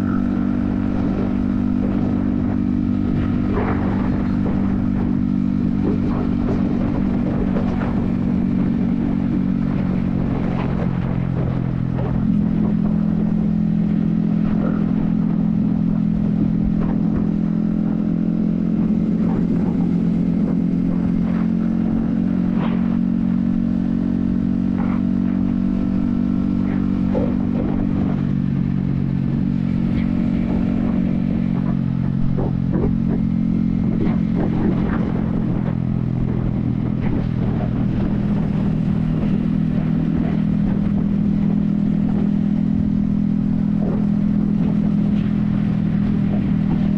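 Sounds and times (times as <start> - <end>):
motorcycle engine cruising: 0.0 - 46.9
wind rumble: 0.0 - 46.9.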